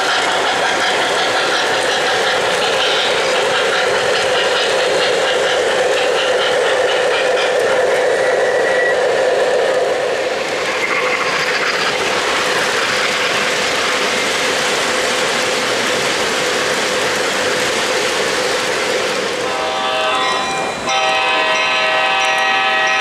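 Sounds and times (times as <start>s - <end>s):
model trains running on track: 0.0s - 23.0s.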